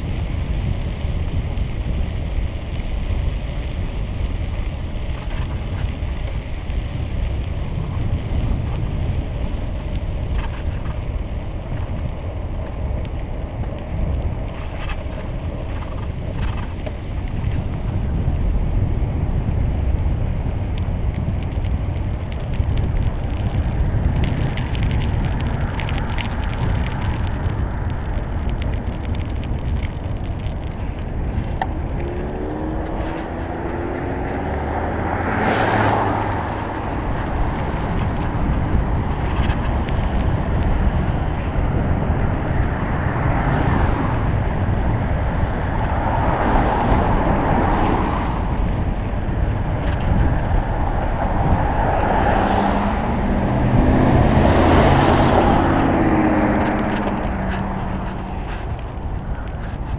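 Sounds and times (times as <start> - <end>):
cars passing: 0.0 - 59.9
wind buffeting microphone: 0.0 - 59.9.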